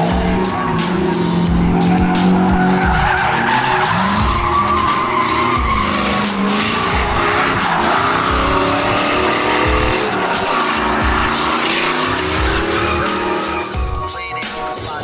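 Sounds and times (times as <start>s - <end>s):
tyres squealing: 0.0s - 14.5s
truck engine revving: 0.0s - 15.0s.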